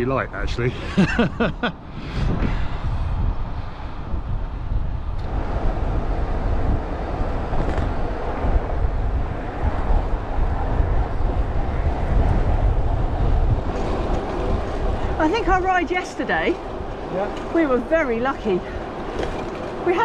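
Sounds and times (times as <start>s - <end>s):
road and traffic noise: 0.0s - 20.0s
wind rumble on microphone: 0.0s - 20.0s.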